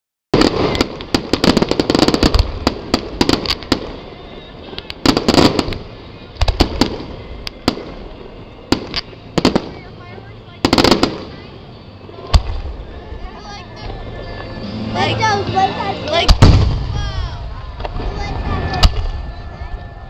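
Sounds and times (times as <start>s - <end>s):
fireworks bangs and crackles: 0.4s - 20.0s.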